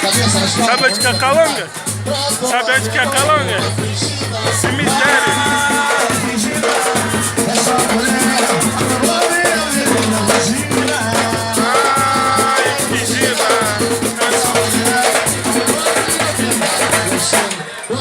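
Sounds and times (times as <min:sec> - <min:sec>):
shakers and drums: 0:00.0 - 0:18.0
person singing: 0:01.6 - 0:18.0.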